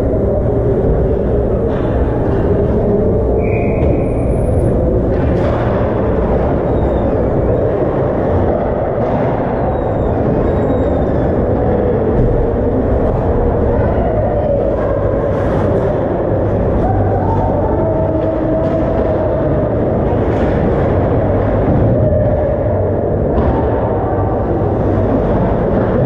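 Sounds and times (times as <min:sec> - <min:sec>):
ice rink low rumble: 0:00.0 - 0:26.0.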